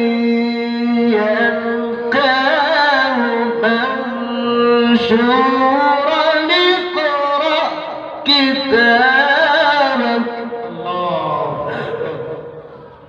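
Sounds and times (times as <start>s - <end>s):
man chanting melodic recitation: 0.0s - 12.6s.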